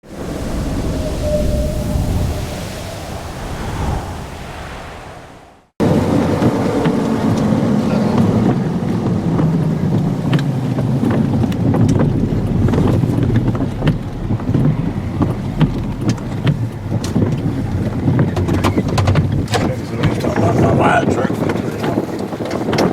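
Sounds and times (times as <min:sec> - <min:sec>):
storm wind on microphone: 0:00.0 - 0:22.9.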